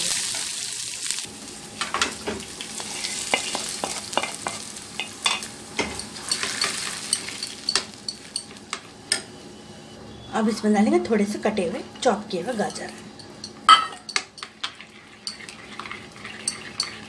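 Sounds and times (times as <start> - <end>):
spices sizzling in hot oil: 0.0 - 9.2, 12.0 - 17.0.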